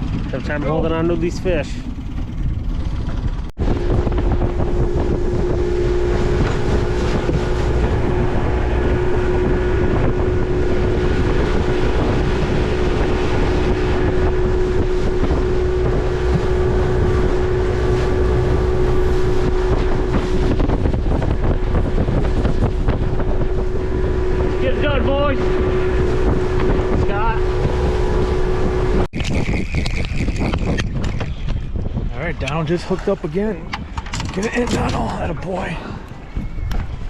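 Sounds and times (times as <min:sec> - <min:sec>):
boat motor running: 0:00.0 - 0:37.0
wind buffeting microphone: 0:00.0 - 0:37.0.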